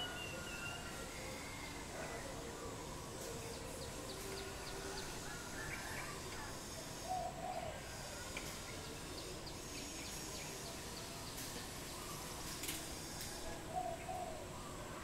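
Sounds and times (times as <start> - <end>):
outdoor ambience: 0.0 - 15.0.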